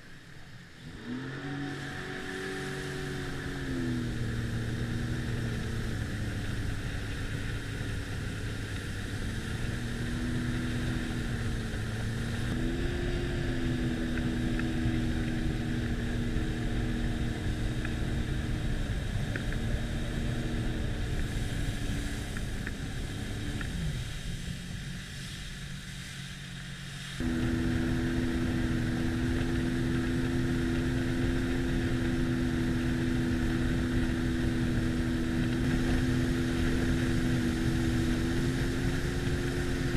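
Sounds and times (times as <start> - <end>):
watercraft engine running: 0.0 - 39.9.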